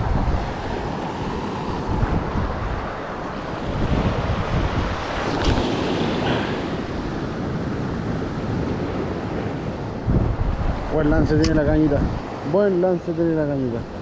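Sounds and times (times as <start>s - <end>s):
wind buffeting microphone: 0.0s - 12.6s
waves on rocky shore: 0.0s - 14.0s.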